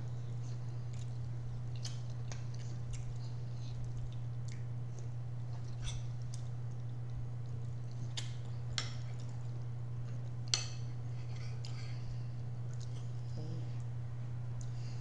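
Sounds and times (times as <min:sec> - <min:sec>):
people chewing and smacking: 0:00.1 - 0:15.0.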